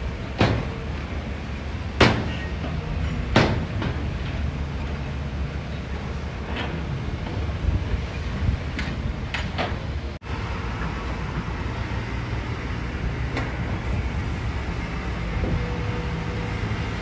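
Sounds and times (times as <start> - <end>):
heavy machinery engine rumble: 0.0 - 17.0.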